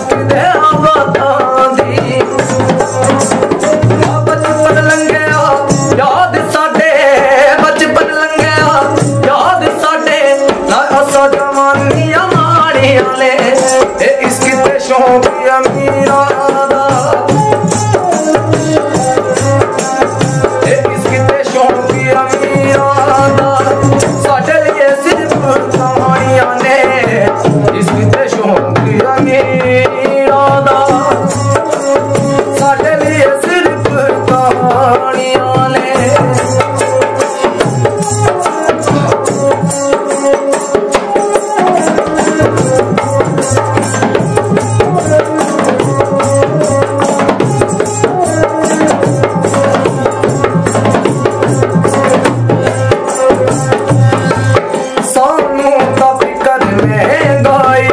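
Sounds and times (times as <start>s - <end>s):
hand drum beat: 0.0s - 57.9s.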